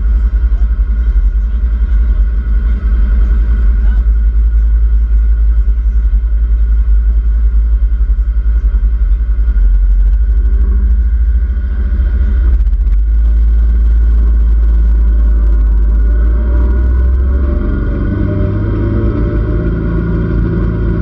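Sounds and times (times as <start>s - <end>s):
vehicle engine running: 0.0s - 21.0s
wind rumble on microphone: 0.0s - 21.0s.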